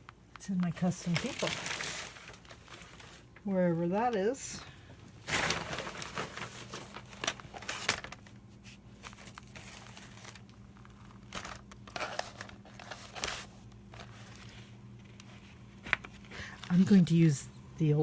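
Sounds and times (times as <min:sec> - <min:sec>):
papers rustling and crinkling: 0:00.0 - 0:17.3.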